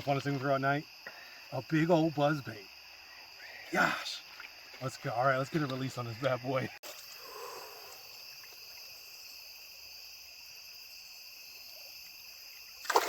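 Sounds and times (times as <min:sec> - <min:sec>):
crickets chirping: 0:00.0 - 0:13.0
night insects chorus: 0:00.0 - 0:13.0.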